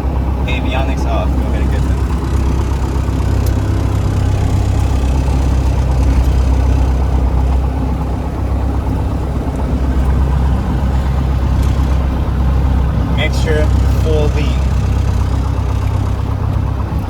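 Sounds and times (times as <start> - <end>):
aircraft engine idling: 0.0 - 17.0.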